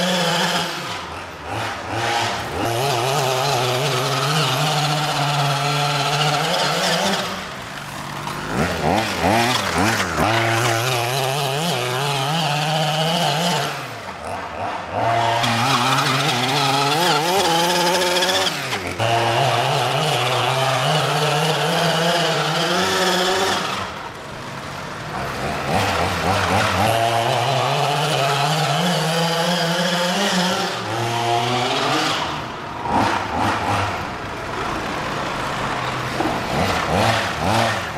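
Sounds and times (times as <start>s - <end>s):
two-stroke engine revving: 0.0s - 37.9s.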